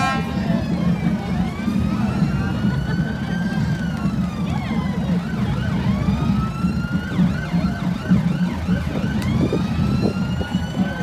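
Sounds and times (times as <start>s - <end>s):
sirens wailing: 0.0s - 11.0s.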